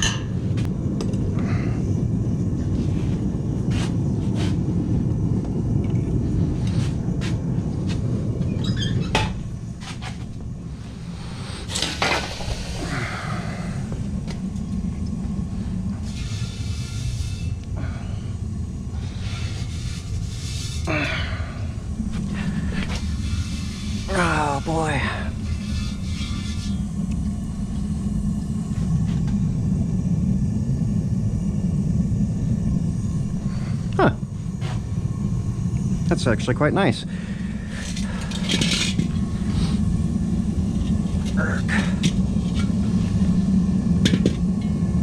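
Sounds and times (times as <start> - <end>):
forge burner rumbling: 0.0 - 45.0.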